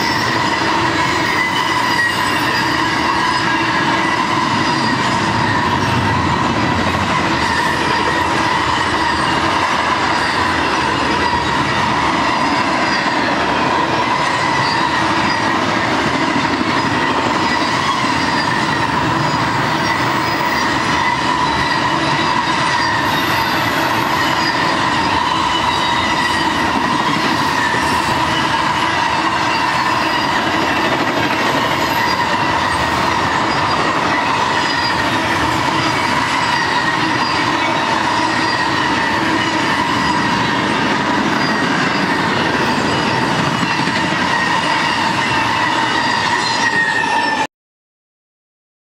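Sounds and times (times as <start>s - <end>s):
high-pitched wheel squeal: 0.0s - 47.5s
steel wheels rumbling on rail: 0.0s - 47.5s.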